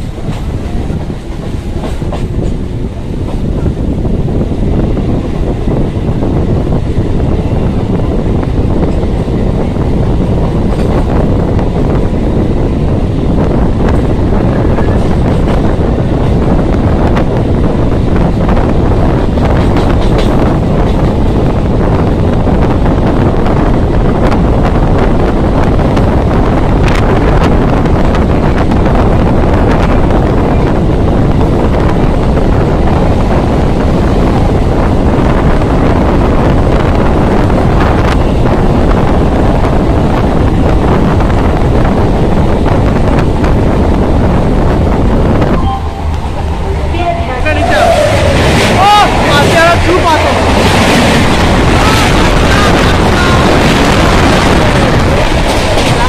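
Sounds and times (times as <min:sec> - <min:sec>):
train rumbling on track: 0:00.0 - 0:56.0
wind noise on microphone: 0:00.0 - 0:56.0.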